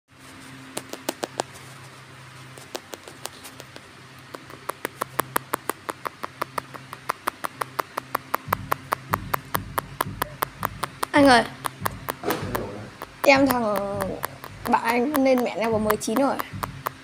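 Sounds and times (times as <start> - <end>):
steady low hum: 0.1 - 17.0
sharp short clicks: 2.6 - 17.0.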